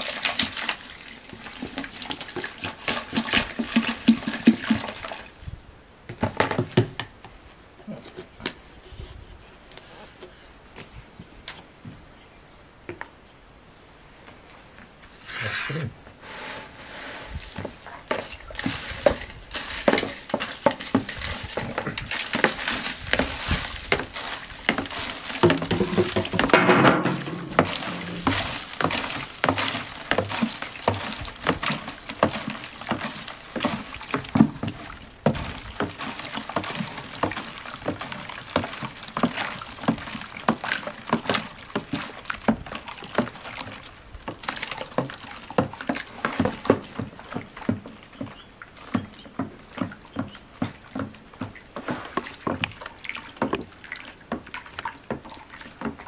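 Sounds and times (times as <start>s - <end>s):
stick knocking and scraping bucket: 0.0s - 5.2s, 6.1s - 7.1s, 15.1s - 56.0s.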